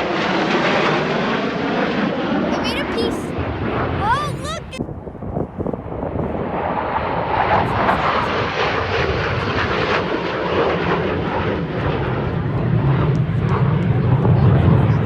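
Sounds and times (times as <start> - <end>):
jet aircraft flying by: 0.0 - 15.0.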